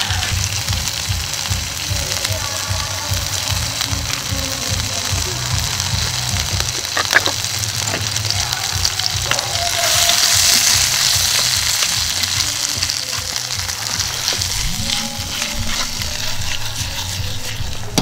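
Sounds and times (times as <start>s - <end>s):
meat sizzling as it fries: 0.0s - 18.0s.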